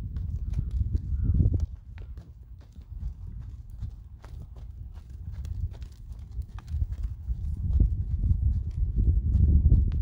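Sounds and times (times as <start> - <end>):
horse hoofbeats: 0.0 - 10.0.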